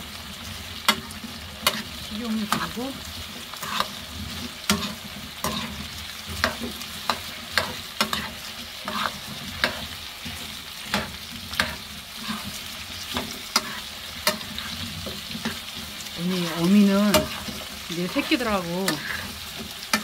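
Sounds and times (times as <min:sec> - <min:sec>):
potatoes sizzling in oil: 0:00.0 - 0:20.0
spoon scraping a pan: 0:00.6 - 0:20.0.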